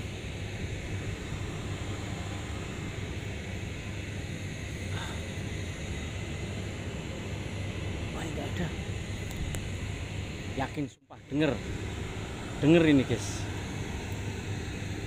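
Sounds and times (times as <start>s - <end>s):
pump humming with hiss: 0.0s - 15.0s.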